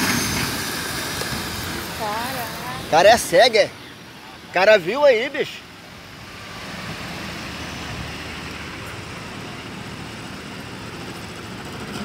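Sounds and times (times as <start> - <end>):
traffic and engines running: 0.0 - 12.0.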